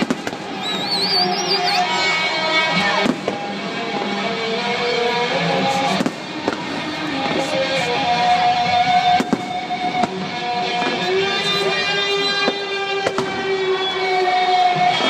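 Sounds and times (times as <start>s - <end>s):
fireworks bangs: 0.0s - 15.0s
music playing: 0.0s - 15.0s.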